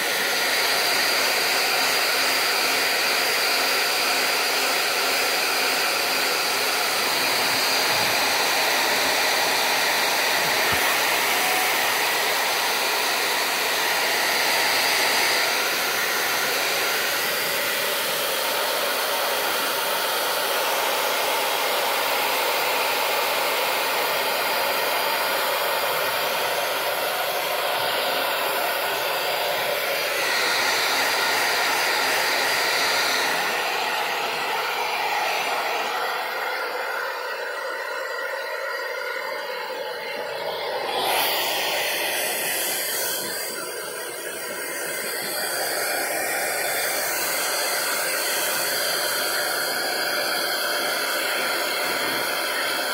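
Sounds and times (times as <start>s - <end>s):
hair dryer blowing: 0.0s - 52.9s.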